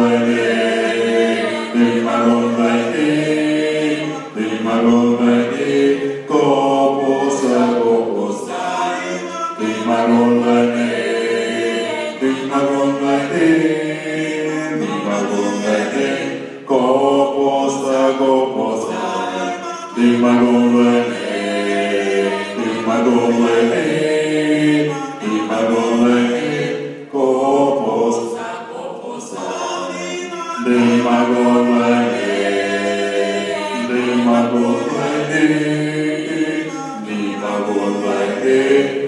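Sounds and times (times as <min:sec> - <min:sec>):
male a cappella group singing: 0:00.0 - 0:39.0.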